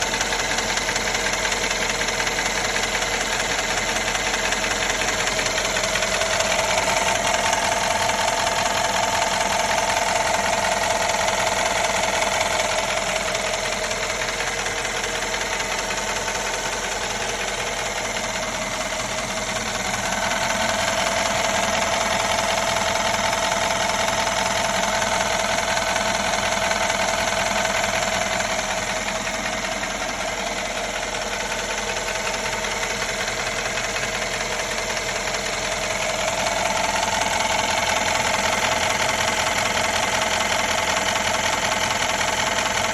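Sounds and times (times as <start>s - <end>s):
engine idling with ticking: 0.0s - 42.9s.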